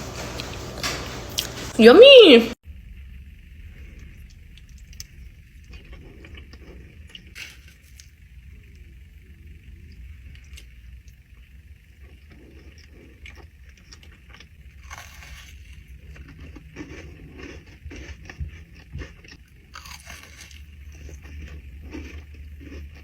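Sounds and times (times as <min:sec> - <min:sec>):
low hum: 0:00.0 - 0:23.0
cookie crunching: 0:03.9 - 0:23.0.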